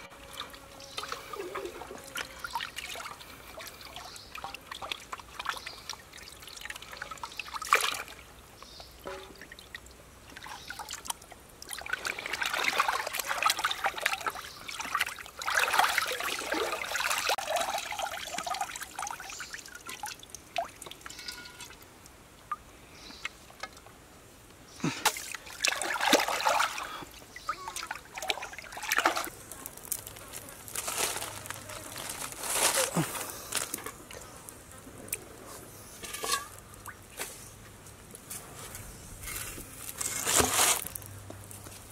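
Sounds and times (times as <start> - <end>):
water splashing and trickling: 0.0 - 24.0, 24.7 - 34.3, 36.0 - 38.2.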